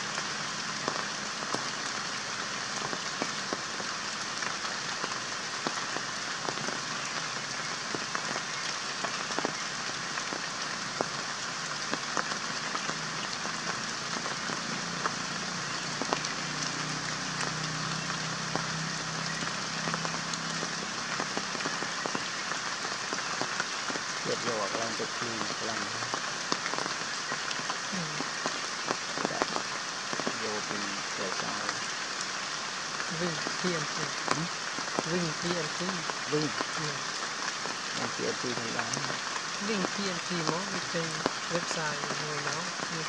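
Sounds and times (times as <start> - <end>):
rain drops ticking on leaves: 0.0 - 43.0.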